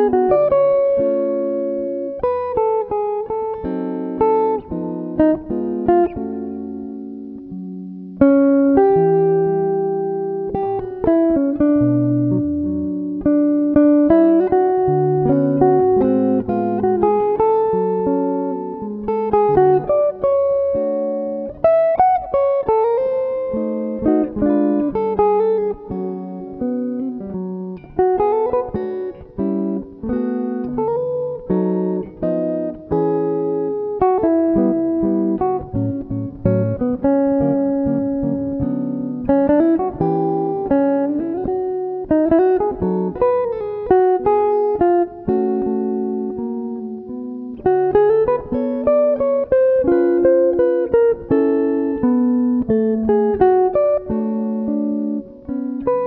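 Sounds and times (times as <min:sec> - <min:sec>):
clean electric guitar jazz: 0:00.0 - 0:56.0.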